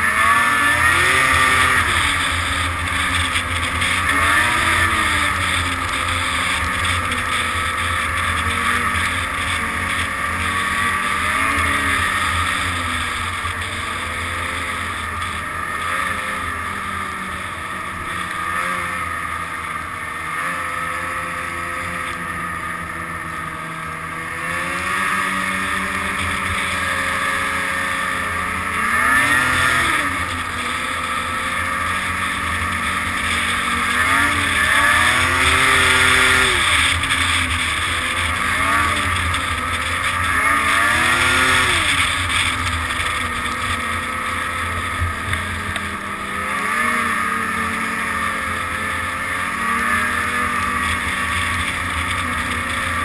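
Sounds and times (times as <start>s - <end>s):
snowmobile engine running: 0.0s - 53.0s
steady rushing noise: 0.0s - 53.0s.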